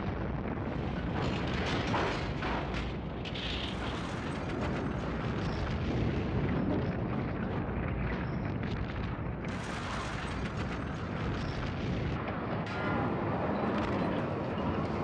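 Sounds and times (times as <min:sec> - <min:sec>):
falling structure rumbling: 0:00.0 - 0:15.0.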